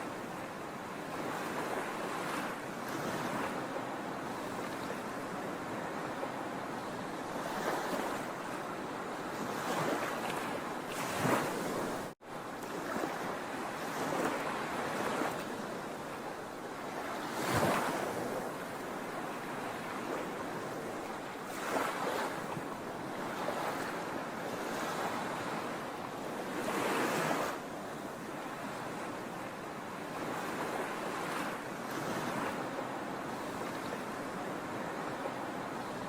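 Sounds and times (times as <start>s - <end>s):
sea waves washing on shore: 0.0s - 36.0s.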